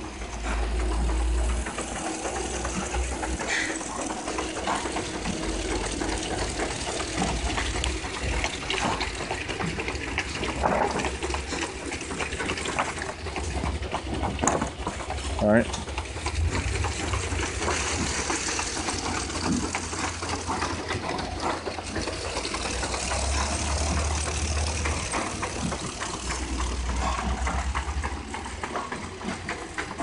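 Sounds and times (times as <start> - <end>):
machine low hum: 0.0 - 30.0.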